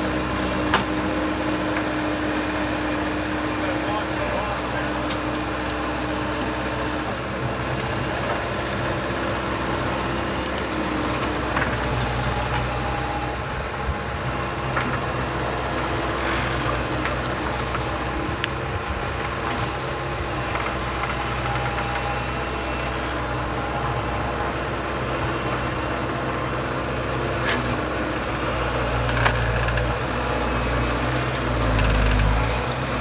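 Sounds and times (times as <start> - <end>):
skid steer engine running: 0.0 - 33.0.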